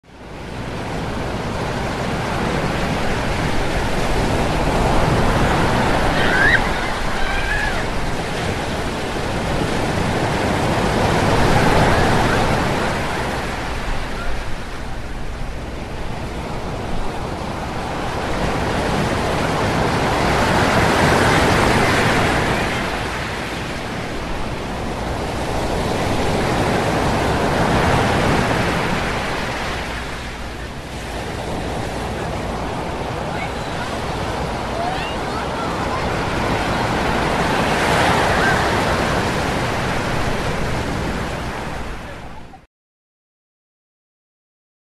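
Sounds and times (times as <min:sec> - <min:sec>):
ocean waves breaking: 0:00.0 - 0:42.6.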